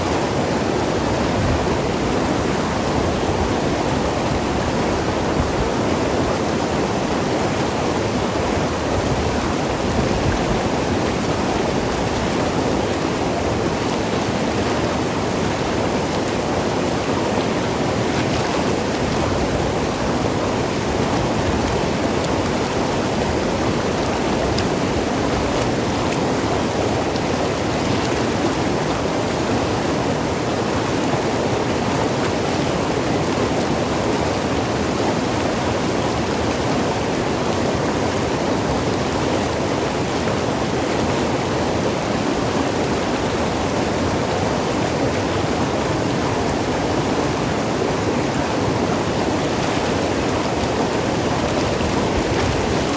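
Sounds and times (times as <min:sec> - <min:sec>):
river rushing over rocks: 0:00.0 - 0:52.9.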